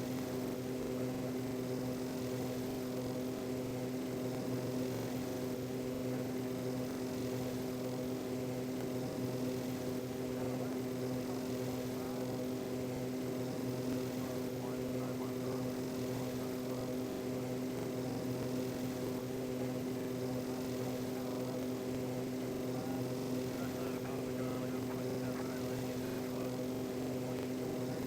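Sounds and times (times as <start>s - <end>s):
aeroplane engine drone: 0.0s - 28.0s.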